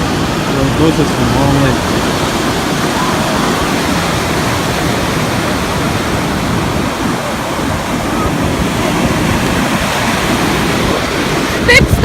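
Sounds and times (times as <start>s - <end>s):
ocean surf rushing: 0.0s - 12.0s
wind rumbling on microphone: 0.0s - 12.0s.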